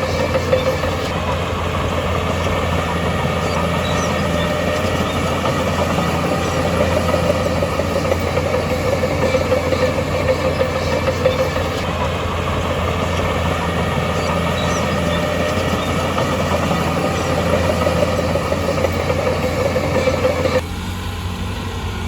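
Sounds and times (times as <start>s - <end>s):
heavy diesel machinery drone: 0.0s - 22.0s.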